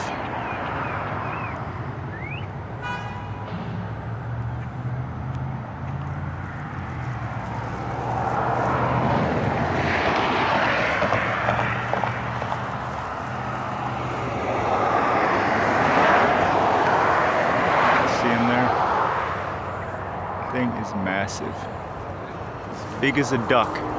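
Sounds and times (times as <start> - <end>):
vehicles passing rushing: 0.0 - 23.9.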